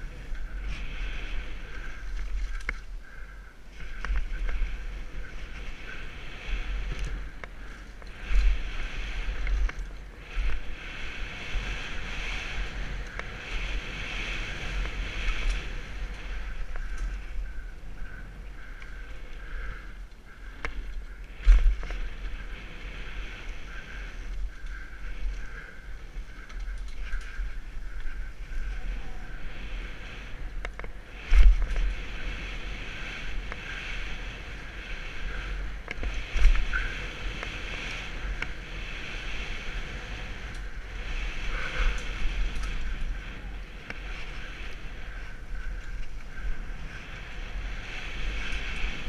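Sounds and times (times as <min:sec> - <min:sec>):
bike tyres and frame rattling: 0:00.0 - 0:49.0
wind buffeting microphone: 0:00.0 - 0:49.0.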